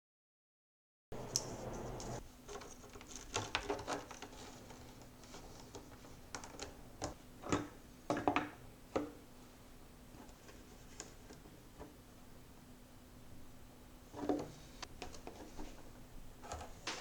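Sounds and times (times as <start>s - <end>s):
faint steady hum: 1.1s - 17.0s.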